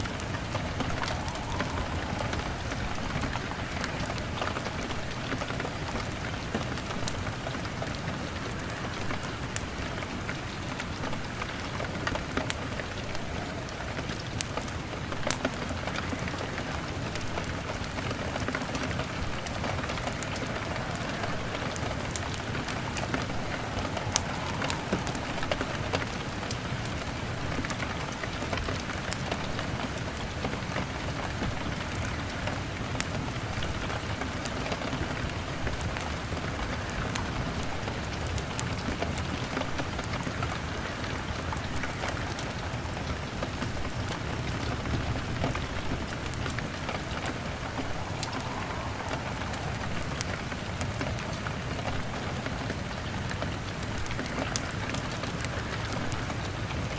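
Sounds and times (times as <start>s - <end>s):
log fire crackling and popping: 0.0s - 30.6s, 33.0s - 56.9s
rain on a window pane: 0.0s - 56.9s.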